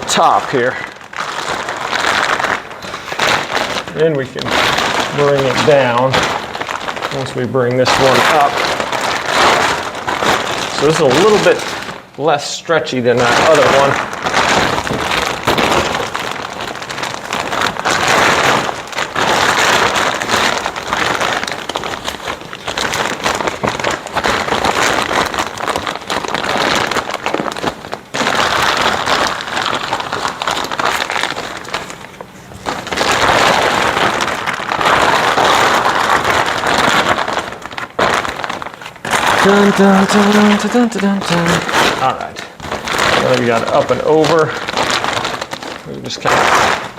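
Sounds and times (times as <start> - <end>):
plastic tarp rustling and crinkling: 0.0 - 46.9.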